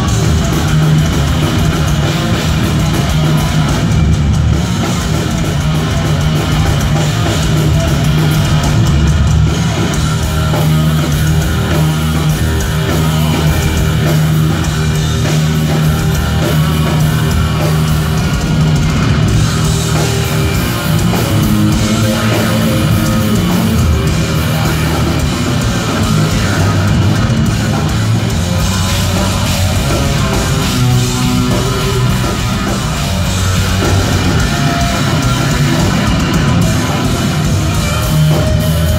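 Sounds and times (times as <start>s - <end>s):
thrash metal band playing live: 0.0s - 38.9s.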